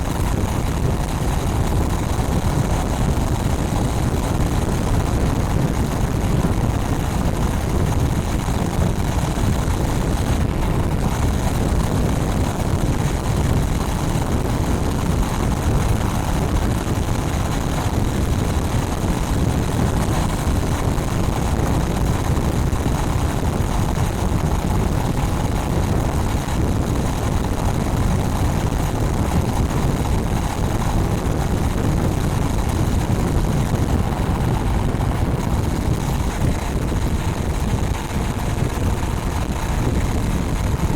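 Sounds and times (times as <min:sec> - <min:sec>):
motorcycle engine running: 0:00.0 - 0:40.9
wind buffeting on microphone: 0:00.0 - 0:40.9.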